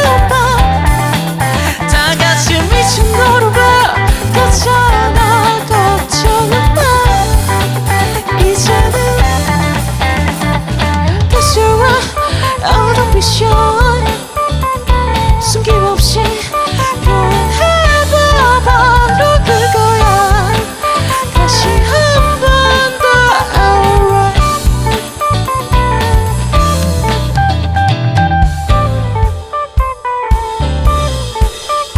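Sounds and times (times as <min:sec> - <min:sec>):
bass guitar: 0:00.0 - 0:31.9
drum kit: 0:00.0 - 0:31.9
electric guitar: 0:00.0 - 0:31.9
sliding lead melody: 0:00.0 - 0:31.9.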